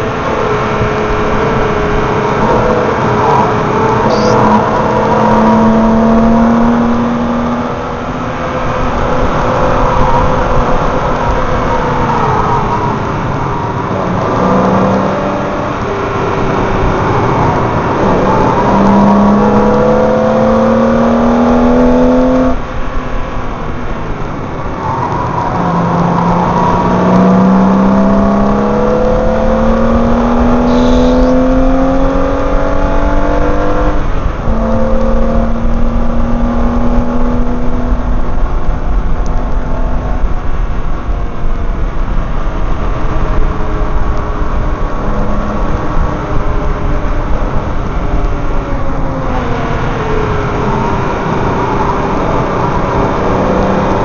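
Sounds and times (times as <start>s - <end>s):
car engine and exhaust revving: 0.0s - 54.0s
road and wind noise: 0.0s - 54.0s.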